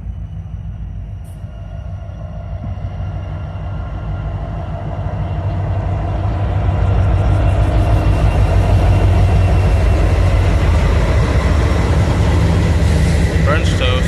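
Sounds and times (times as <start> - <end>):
train approaching: 0.0 - 14.0.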